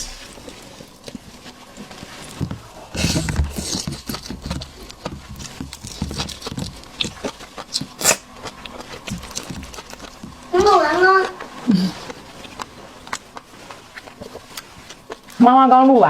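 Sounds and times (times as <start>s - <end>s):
seafood being chewed: 0.0s - 15.4s.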